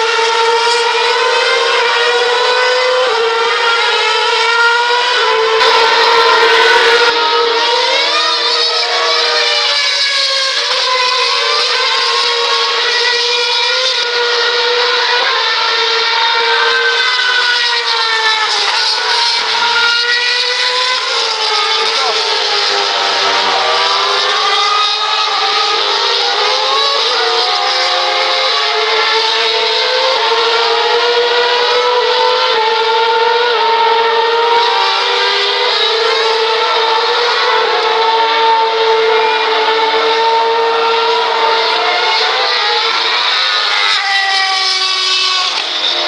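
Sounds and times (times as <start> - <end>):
racing car engines at high revs: 0.0 - 46.0.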